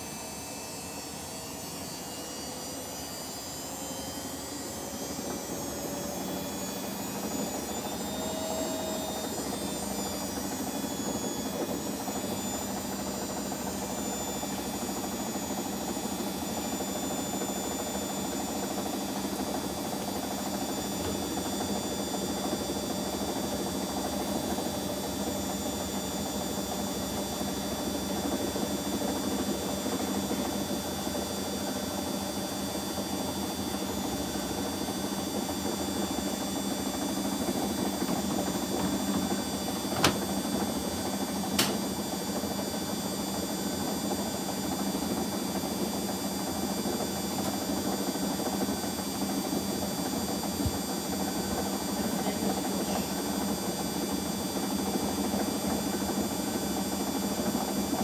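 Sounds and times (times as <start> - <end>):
washing machines spinning: 0.0 - 58.0.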